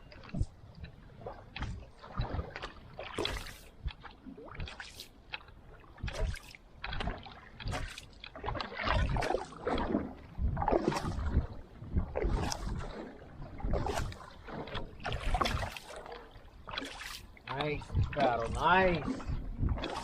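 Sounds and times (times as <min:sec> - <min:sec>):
wind rumbling on microphone: 0:00.0 - 0:04.8, 0:05.6 - 0:20.0
paddle strokes splashing water: 0:00.0 - 0:20.0.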